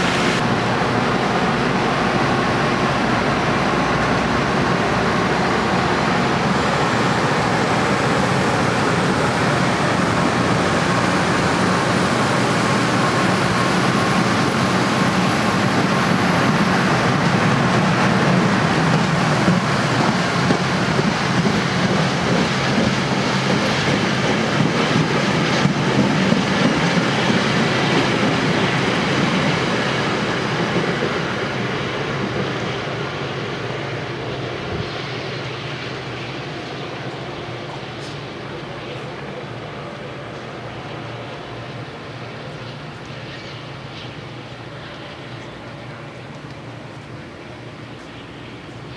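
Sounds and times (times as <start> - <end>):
train wheels on rails: 0.0 - 48.9
sharp clicks of train wheels: 3.7 - 48.9.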